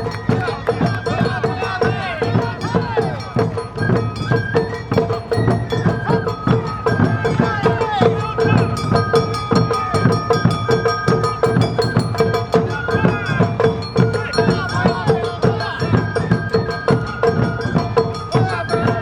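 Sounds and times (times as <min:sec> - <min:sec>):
bamboo flute melody: 0:00.0 - 0:19.0
taiko drums beating: 0:00.0 - 0:19.0.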